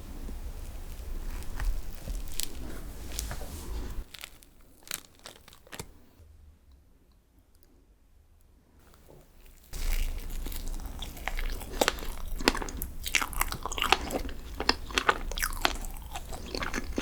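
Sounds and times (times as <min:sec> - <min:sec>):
close crinkling and crackling: 0:00.0 - 0:06.2, 0:08.8 - 0:17.0.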